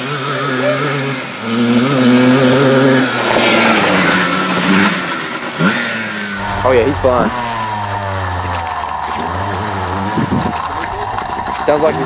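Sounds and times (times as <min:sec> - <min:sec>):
two-stroke quad engine at full throttle: 0:00.0 - 0:12.0.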